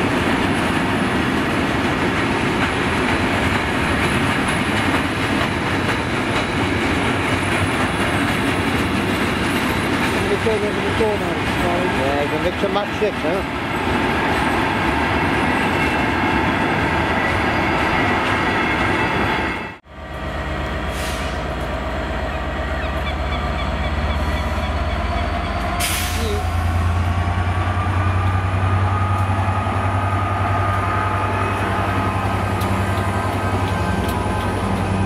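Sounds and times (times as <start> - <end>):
diesel locomotive engine drone: 0.0 - 35.0
freight train wheel and rail noise: 0.0 - 35.0.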